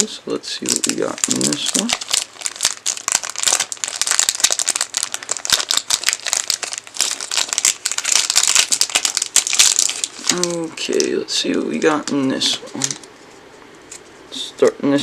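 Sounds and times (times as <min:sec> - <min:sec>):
wrapper crinkling: 0:00.6 - 0:14.1.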